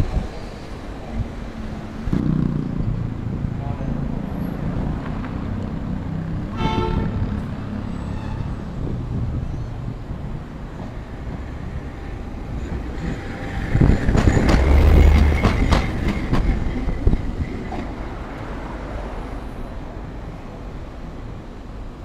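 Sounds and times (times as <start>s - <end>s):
streetcar passing: 0.0s - 22.0s.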